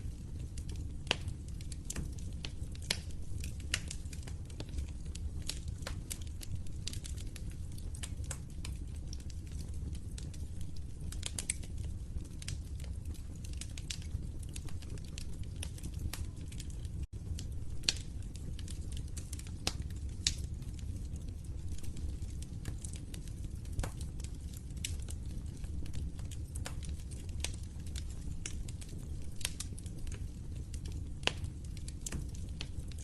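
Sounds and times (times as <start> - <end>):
low rumble of burning: 0.0 - 33.0
wood fire crackling and popping: 0.0 - 33.0.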